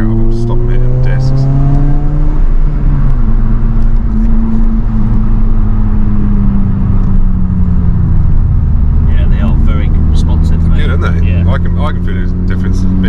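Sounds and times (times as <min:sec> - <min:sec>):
car engine running: 0:00.0 - 0:13.0
road rumble: 0:00.0 - 0:13.0.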